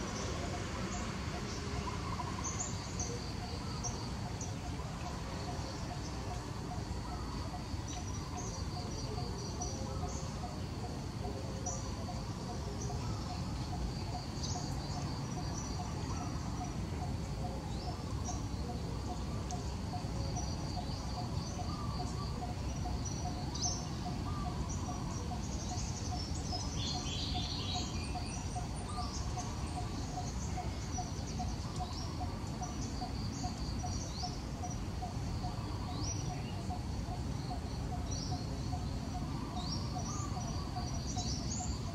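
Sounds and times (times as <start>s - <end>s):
low background hiss: 0.0s - 41.9s
small birds chirping: 0.0s - 41.9s.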